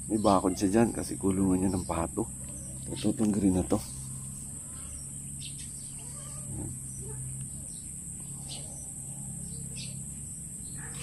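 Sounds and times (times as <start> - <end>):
bird chirps: 0.0 - 11.0
high-pitched insect drone: 0.0 - 11.0
low steady hum: 0.0 - 11.0
faint poultry calls: 0.2 - 11.0.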